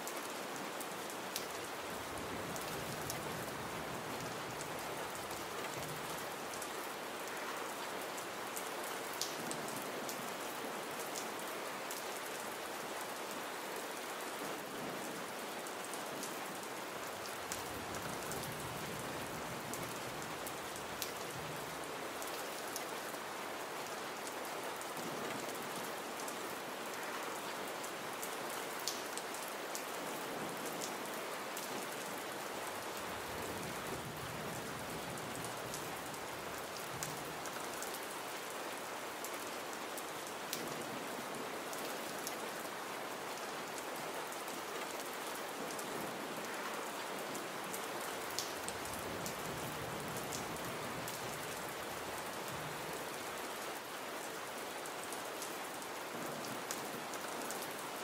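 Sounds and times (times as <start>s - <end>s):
gentle rain hiss: 0.0s - 58.0s.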